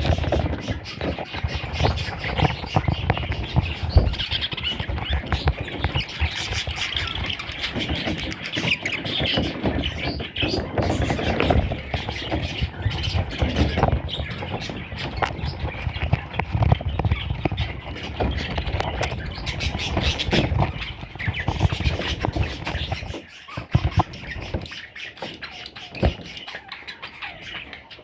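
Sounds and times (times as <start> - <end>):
budgerigar chicks squawking: 0.0 - 28.0.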